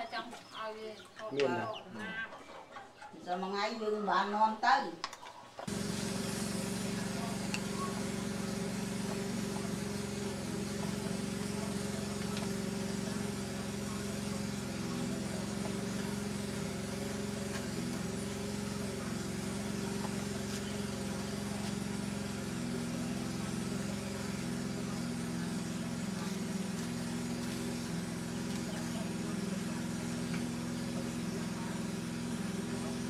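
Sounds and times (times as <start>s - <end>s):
engine running steadily: 5.6s - 33.0s.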